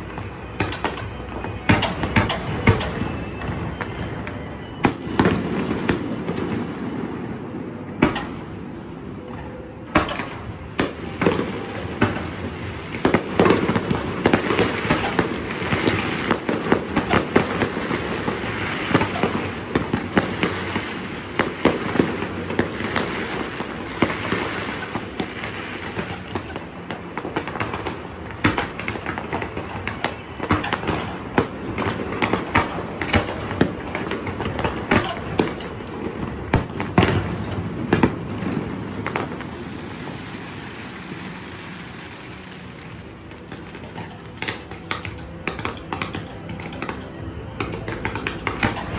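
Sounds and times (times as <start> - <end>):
firework crackling: 0.0 - 48.9.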